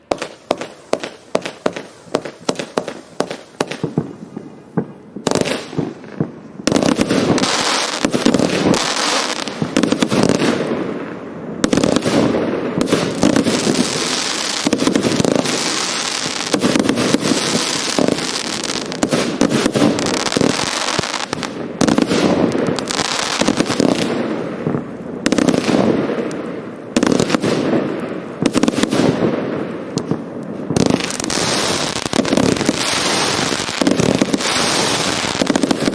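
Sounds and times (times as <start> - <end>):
firework booms and crackle: 0.0 - 35.9.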